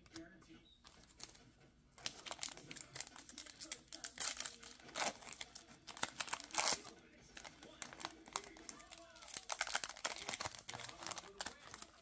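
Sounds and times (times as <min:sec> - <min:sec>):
foil wrapper crinkling: 0:02.0 - 0:12.0.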